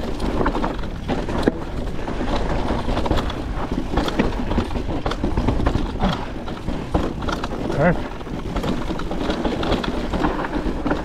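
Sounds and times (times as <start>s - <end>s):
bike clattering over rough ground: 0.0s - 11.0s
tyre and wind rushing: 0.0s - 11.0s.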